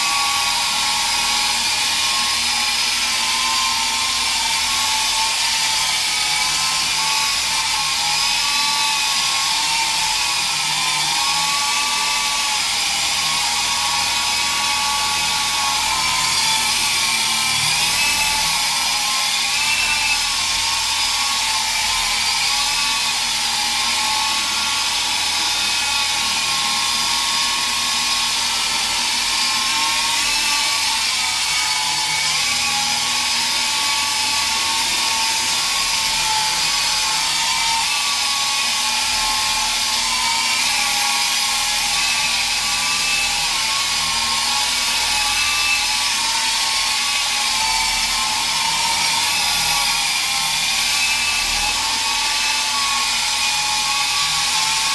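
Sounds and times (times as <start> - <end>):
rc helicopter rotor whine: 0.0 - 54.9.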